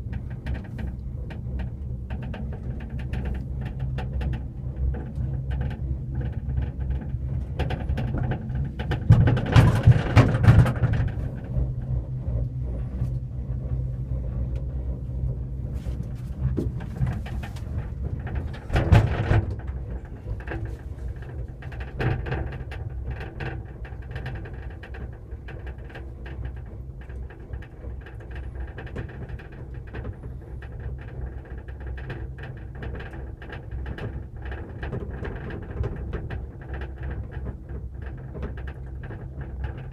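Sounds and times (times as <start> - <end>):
cable car cabin rumbling: 0.0 - 39.9.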